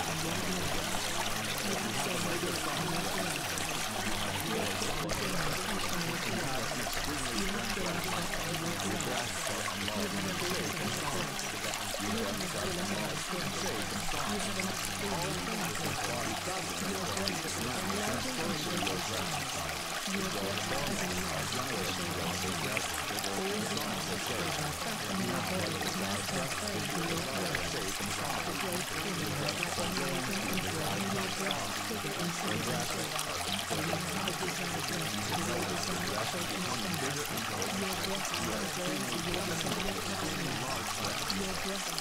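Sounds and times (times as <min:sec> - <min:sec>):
running water: 0:00.0 - 0:42.0.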